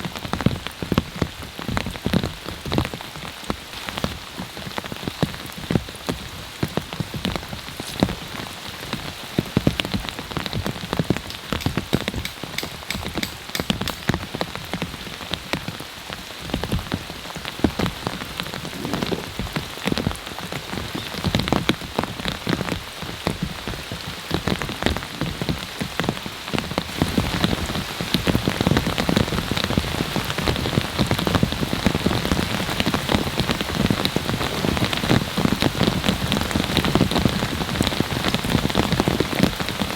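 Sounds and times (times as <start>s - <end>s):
heavy rain hiss: 0.0s - 39.9s
raindrops hitting a surface: 0.0s - 39.9s.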